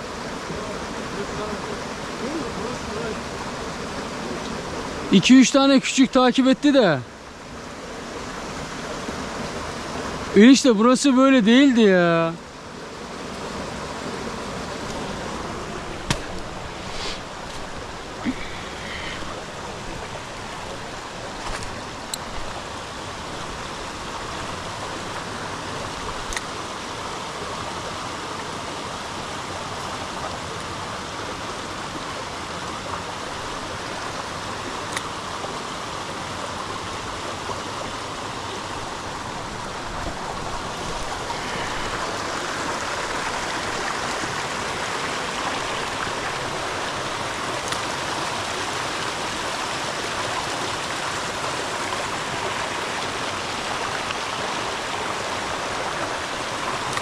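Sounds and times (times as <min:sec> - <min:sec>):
creek water running over stones: 0:00.0 - 0:57.0.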